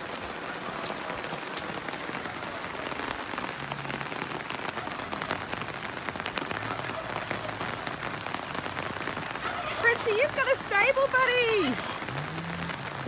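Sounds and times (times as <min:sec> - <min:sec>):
heavy rain falling: 0:00.0 - 0:13.0
raindrops tapping on surfaces: 0:00.0 - 0:13.0.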